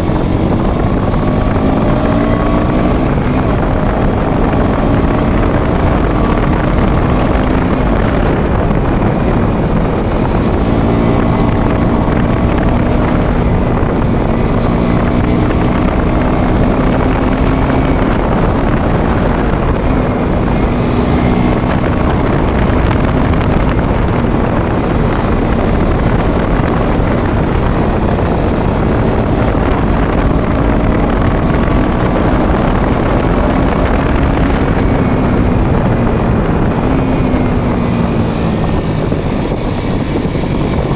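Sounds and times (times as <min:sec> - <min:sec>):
motorcycle engine cruising: 0:00.0 - 0:40.9
wind noise on microphone: 0:00.0 - 0:40.9.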